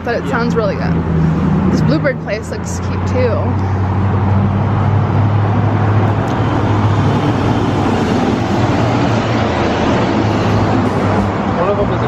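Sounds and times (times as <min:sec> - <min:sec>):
engine hum: 0:00.0 - 0:12.0
road and traffic noise: 0:00.0 - 0:12.0.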